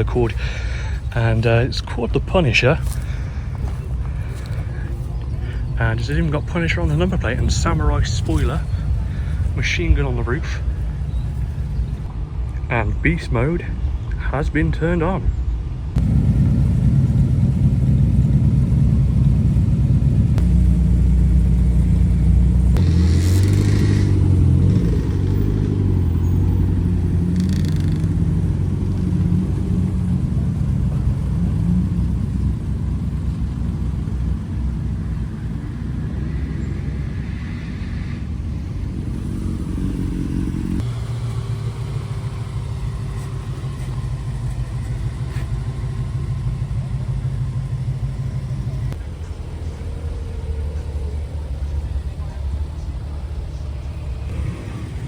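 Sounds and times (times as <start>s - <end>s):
car engines rumbling: 0.0s - 55.0s.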